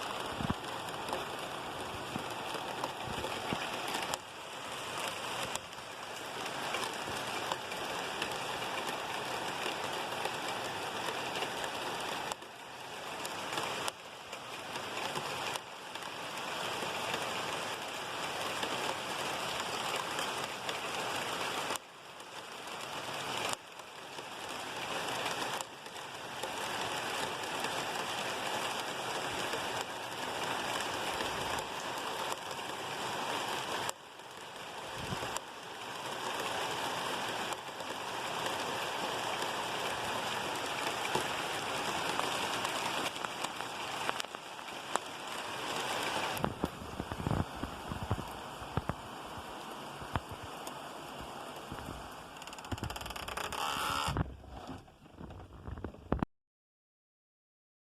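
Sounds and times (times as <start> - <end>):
steady rain falling: 0.0 - 56.2.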